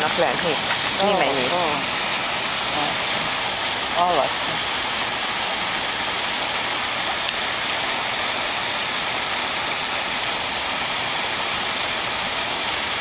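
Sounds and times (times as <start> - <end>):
pond water splashing: 0.0 - 13.0.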